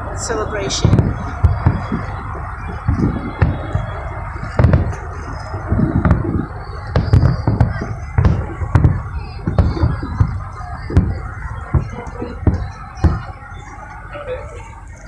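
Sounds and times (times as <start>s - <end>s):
fireworks booming: 0.0s - 14.1s.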